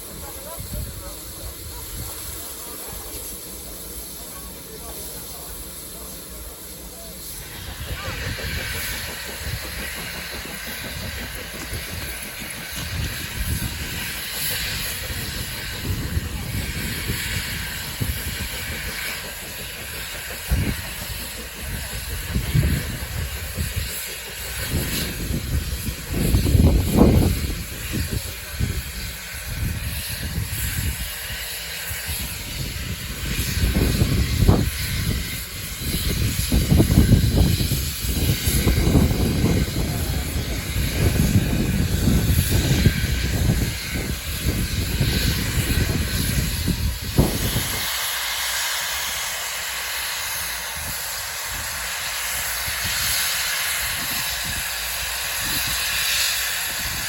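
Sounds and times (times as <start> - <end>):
steam hissing: 0.0 - 57.0.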